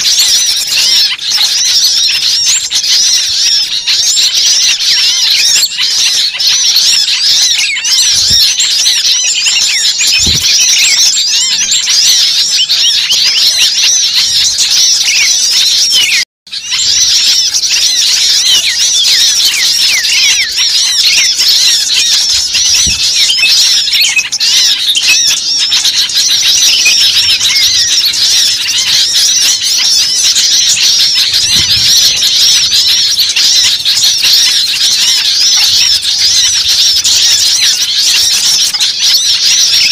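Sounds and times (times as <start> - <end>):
small birds chirping and squealing: 0.0 - 39.9.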